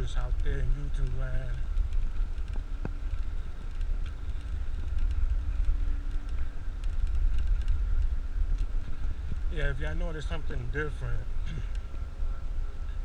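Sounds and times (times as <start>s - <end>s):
faint hum: 0.0s - 13.0s
wind buffeting microphone: 0.0s - 13.0s.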